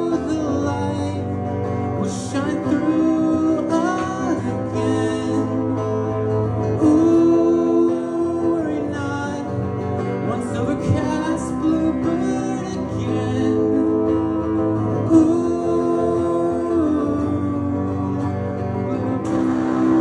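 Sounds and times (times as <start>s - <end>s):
person singing: 0.0s - 5.8s, 6.8s - 20.0s
acoustic guitar: 0.0s - 20.0s.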